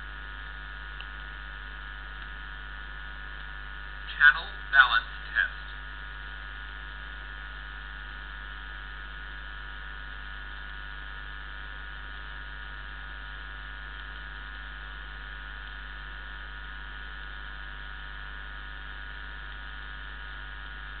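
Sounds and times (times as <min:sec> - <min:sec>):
continuous low hum: 0:00.0 - 0:21.0
test signal noise from loudspeaker: 0:00.0 - 0:21.0.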